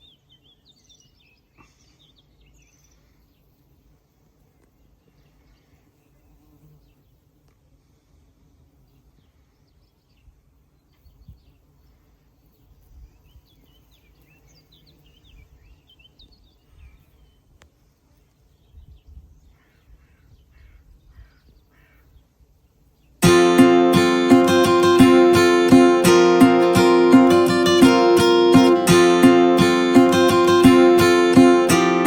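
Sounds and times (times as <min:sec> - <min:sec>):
faint birdsong: 0:00.0 - 0:31.8.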